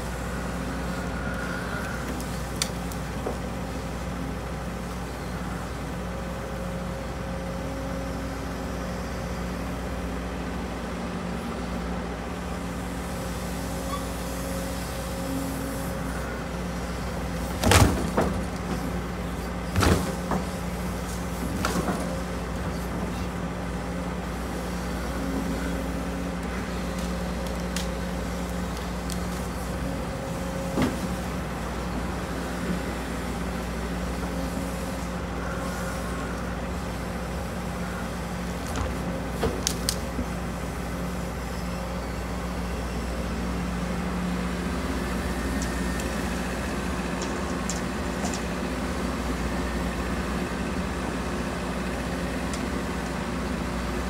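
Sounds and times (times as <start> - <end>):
excavator diesel engine humming: 0.0 - 54.0.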